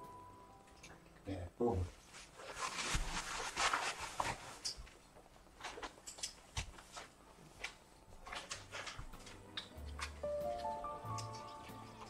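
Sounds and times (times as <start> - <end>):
paper wrapping crinkling: 2.0 - 12.0.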